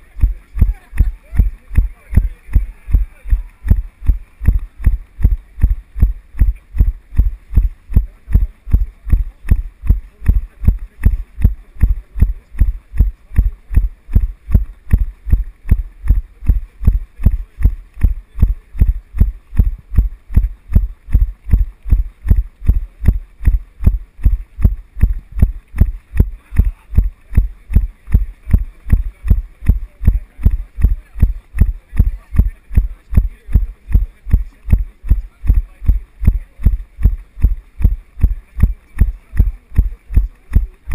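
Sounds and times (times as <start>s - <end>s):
running footfalls thudding: 0.0s - 40.9s.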